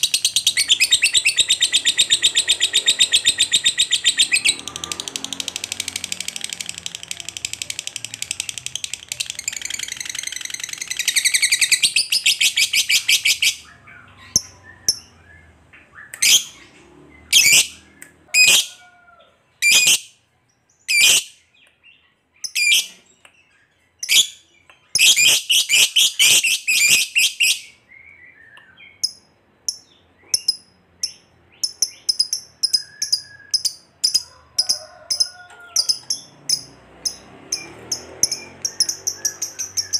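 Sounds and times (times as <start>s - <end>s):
lovebird shrill chirping: 0.0s - 15.4s, 16.0s - 16.6s, 17.3s - 18.8s, 19.6s - 20.1s, 20.9s - 21.4s, 22.4s - 23.0s, 24.0s - 39.9s.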